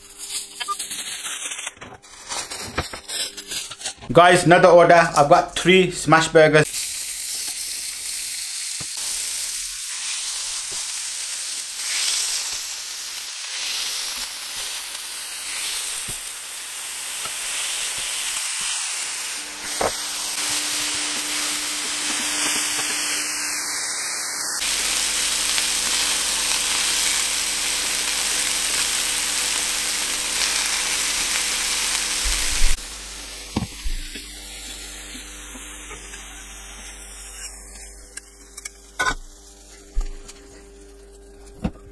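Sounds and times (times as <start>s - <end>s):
burger patties sizzling on griddle: 6.6s - 40.2s.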